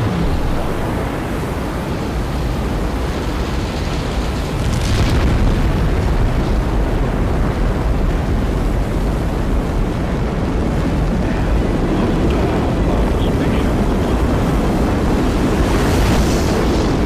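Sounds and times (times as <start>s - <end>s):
rocket engines deep rumble: 0.0s - 17.0s.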